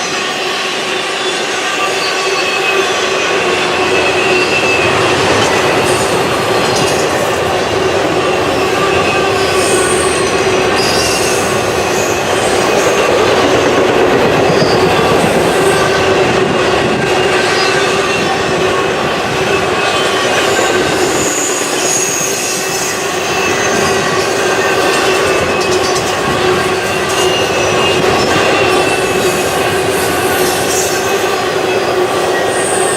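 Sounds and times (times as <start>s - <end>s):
freight train rolling on rails: 0.0s - 32.9s
high wheel squeals: 0.1s - 32.9s.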